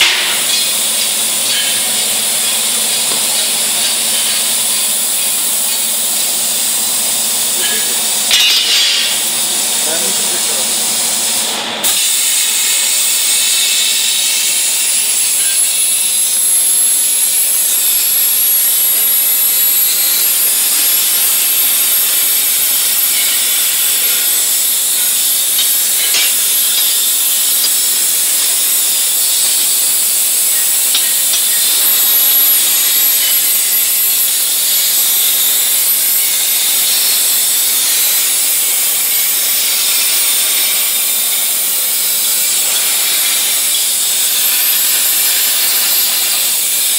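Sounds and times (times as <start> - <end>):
plasma torch hissing: 0.0 - 46.9.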